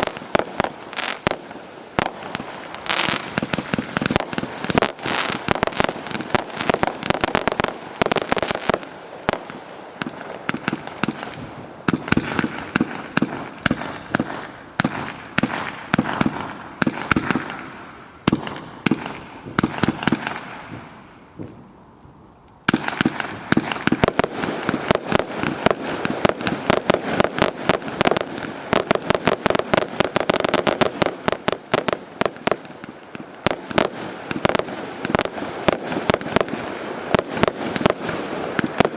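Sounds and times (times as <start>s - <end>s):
fireworks cake firing: 0.0s - 21.6s, 22.7s - 38.9s.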